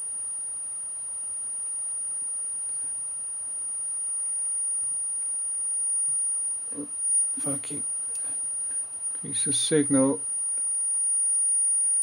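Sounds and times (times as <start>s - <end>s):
high-pitched sine test tone: 0.0s - 12.0s.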